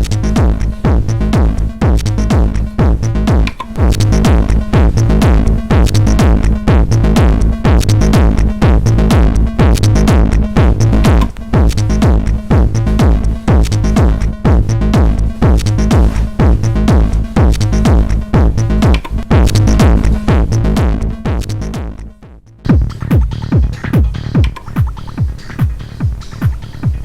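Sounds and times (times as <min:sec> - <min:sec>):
bass and synth: 0:00.0 - 0:27.0
techno drum machine beat: 0:00.0 - 0:27.0.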